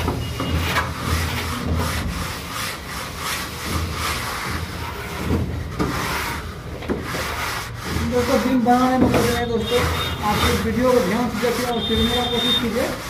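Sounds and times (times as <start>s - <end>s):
metal straightedge scraping plaster: 0.0s - 13.0s.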